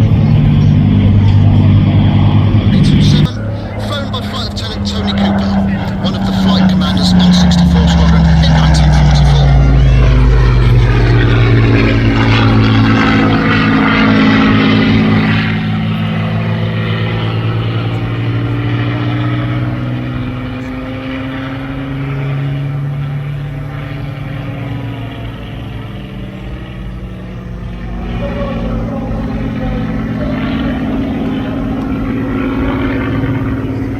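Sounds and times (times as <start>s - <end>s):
propeller aircraft engine flyby: 0.0s - 33.9s.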